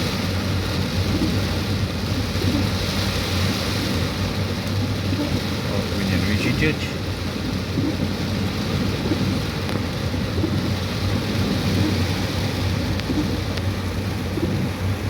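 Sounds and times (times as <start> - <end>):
car engine humming: 0.0 - 15.0
rain: 0.0 - 15.0
water rushing: 0.0 - 15.0.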